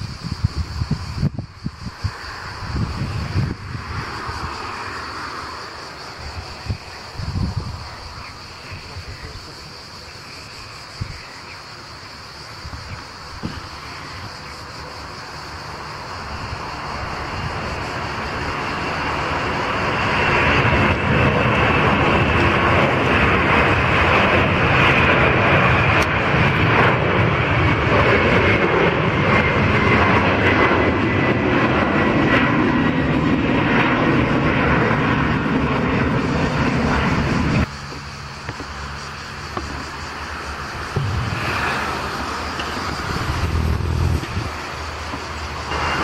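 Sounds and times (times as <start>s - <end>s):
high engine whine: 0.0s - 46.0s
jet engine roar: 0.0s - 46.0s.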